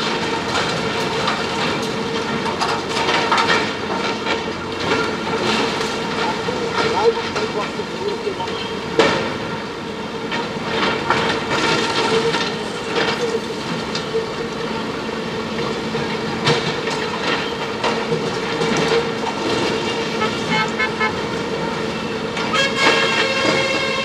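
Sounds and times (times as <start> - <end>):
diesel engines under load: 0.0 - 24.0.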